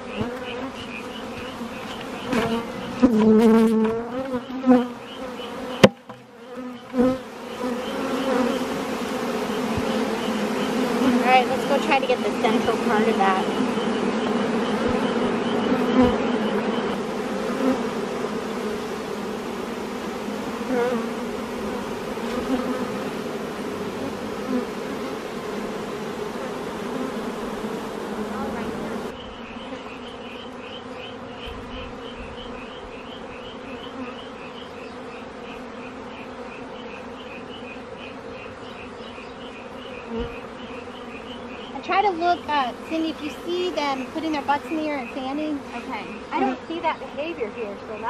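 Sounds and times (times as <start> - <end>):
honey bees buzzing: 0.0 - 48.0.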